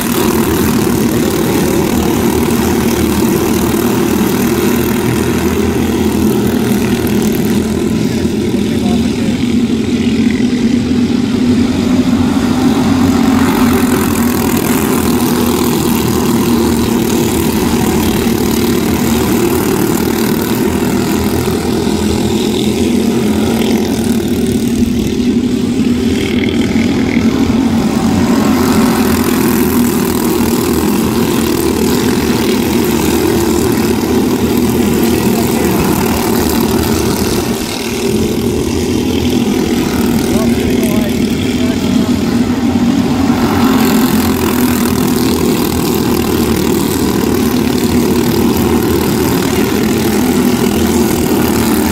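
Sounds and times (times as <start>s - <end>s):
small race car engines droning: 0.0s - 51.9s.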